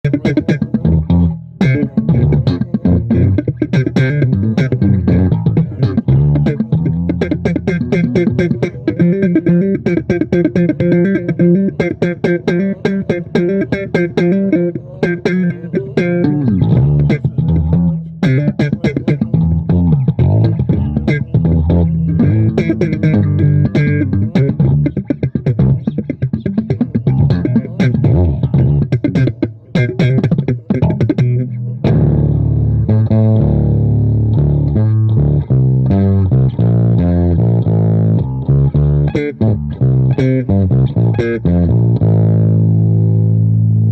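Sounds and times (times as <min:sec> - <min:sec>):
bass guitar thumping bass line: 0:00.0 - 0:43.9.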